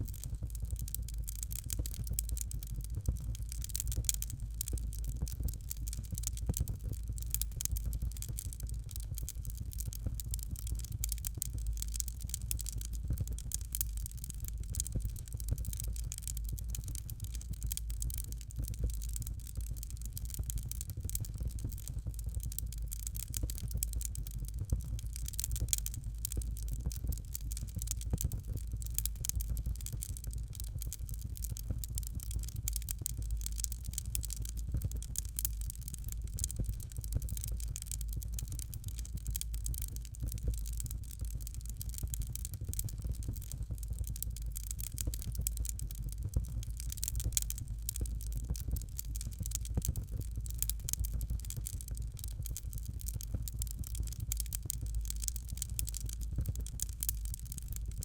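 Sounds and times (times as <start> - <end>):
low steady rumble: 0.0 - 55.3
fire crackling and popping: 0.0 - 58.0.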